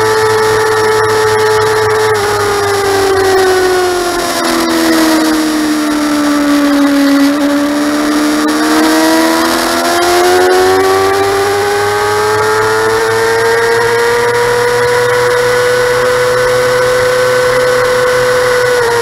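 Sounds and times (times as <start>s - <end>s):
motorcycle engine revving: 0.0s - 19.0s
wind and road noise: 0.0s - 19.0s.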